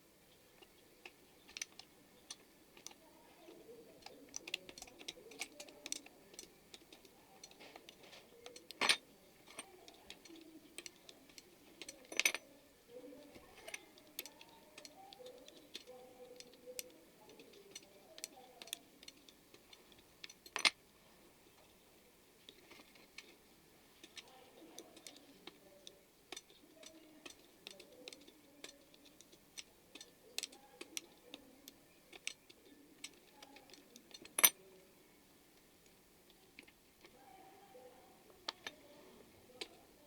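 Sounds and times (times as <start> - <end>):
small parts and tools clinking: 0.6 - 20.8, 22.4 - 34.7, 38.4 - 40.0.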